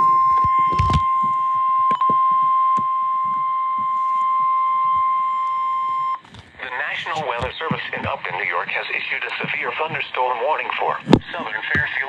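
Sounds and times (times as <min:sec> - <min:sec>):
loud steady alarm beep: 0:00.0 - 0:10.1.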